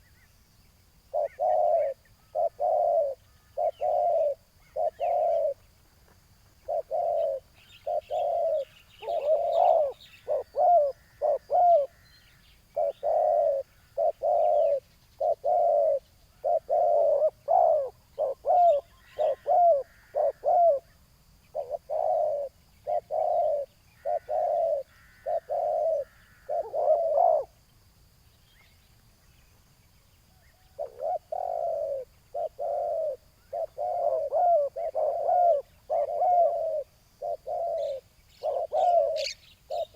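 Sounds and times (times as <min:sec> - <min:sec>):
small birds chirping: 0:00.0 - 0:39.9
doves cooing: 0:01.1 - 0:05.8, 0:06.5 - 0:27.7, 0:30.6 - 0:39.9.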